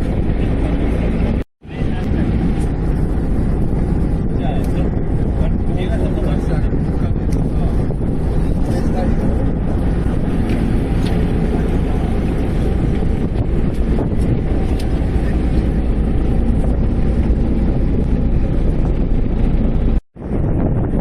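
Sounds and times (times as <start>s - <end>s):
boat engine drone: 0.0s - 21.0s
wind buffeting microphone: 0.0s - 21.0s.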